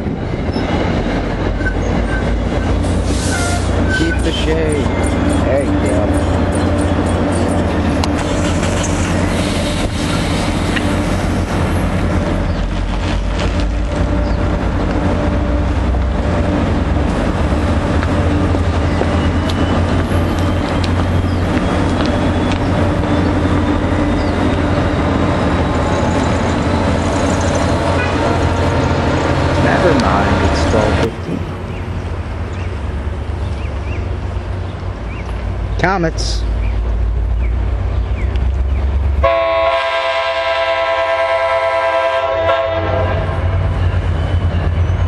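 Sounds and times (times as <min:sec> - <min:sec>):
diesel locomotive drone: 0:00.0 - 0:45.0
train pulling away: 0:00.2 - 0:45.0.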